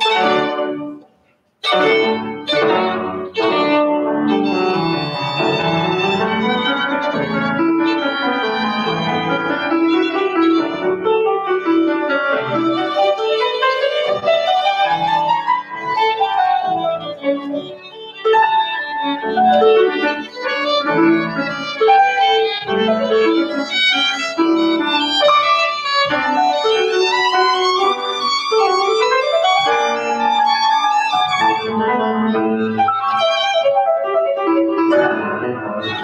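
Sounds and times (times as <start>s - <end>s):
piano accompaniment: 0.0s - 36.0s
violin melody: 0.0s - 36.0s.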